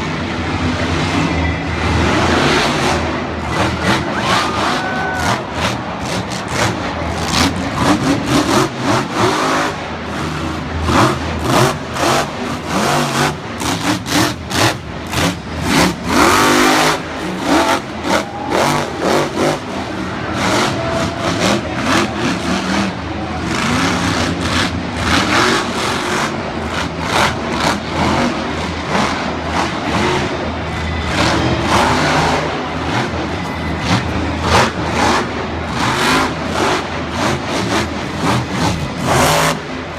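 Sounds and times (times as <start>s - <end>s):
monster truck engines revving: 0.0s - 39.9s.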